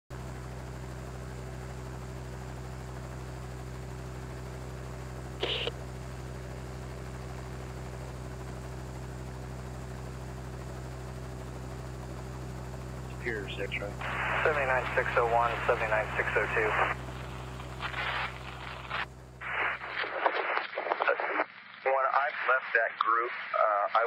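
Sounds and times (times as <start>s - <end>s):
steady low hum: 0.2s - 24.0s.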